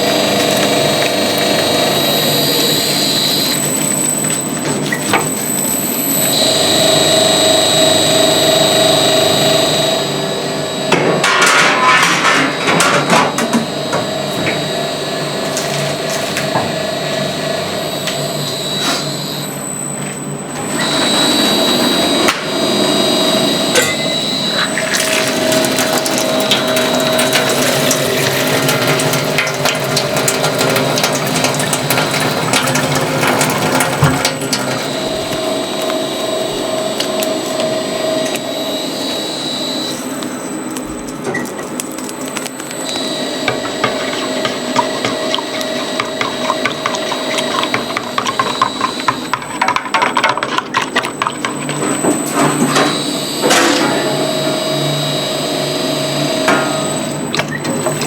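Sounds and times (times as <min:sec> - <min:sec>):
machine whining: 0:00.0 - 0:58.0.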